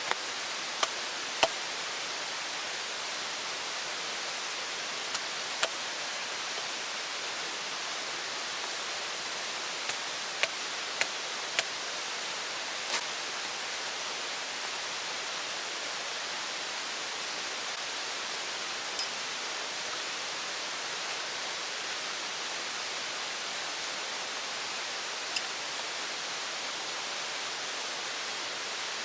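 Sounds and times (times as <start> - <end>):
rushing water hissing: 0.0 - 29.0.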